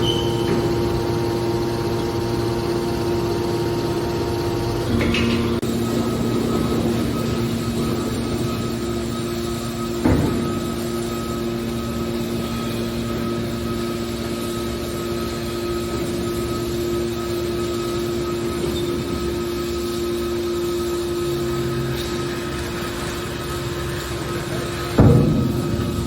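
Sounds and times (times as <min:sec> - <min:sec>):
baler machine humming: 0:00.0 - 0:26.0.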